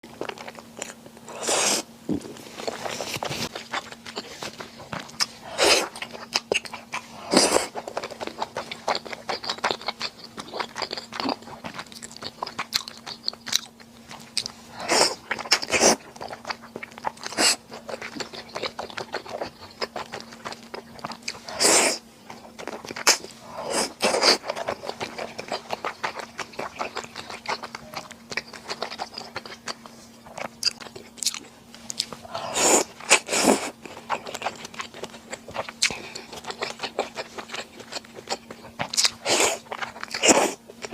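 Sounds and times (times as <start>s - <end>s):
person chewing and eating: 0.0s - 40.9s.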